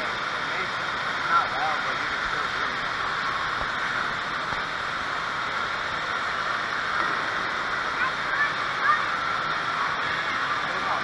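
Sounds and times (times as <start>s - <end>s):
water spraying from jets: 0.0s - 11.0s.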